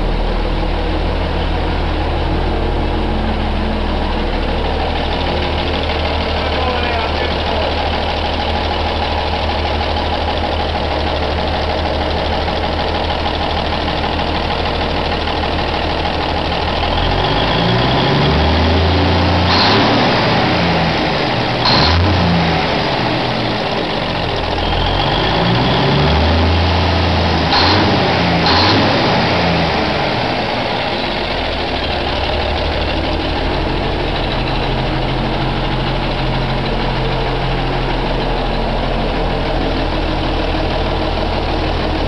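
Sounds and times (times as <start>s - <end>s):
diesel truck engine revving: 0.0s - 42.0s.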